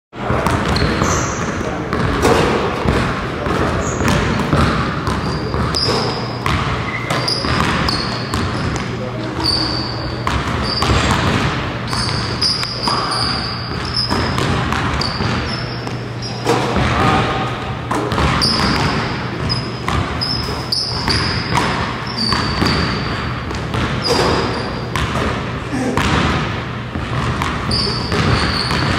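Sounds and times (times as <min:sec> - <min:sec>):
sneaker squeaks: 0:00.2 - 0:26.2, 0:27.0 - 0:28.9
basketballs bouncing on hardwood: 0:00.2 - 0:28.9
steady low hum: 0:00.2 - 0:28.9.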